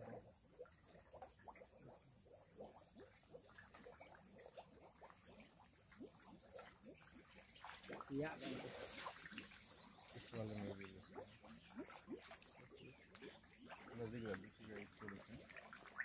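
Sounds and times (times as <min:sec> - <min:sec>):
aerated water bubbling: 0:00.0 - 0:16.0.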